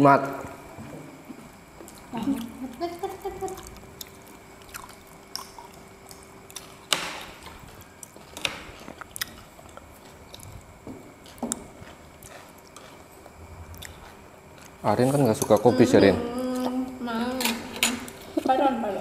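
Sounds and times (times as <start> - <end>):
people chewing: 0.7 - 18.6.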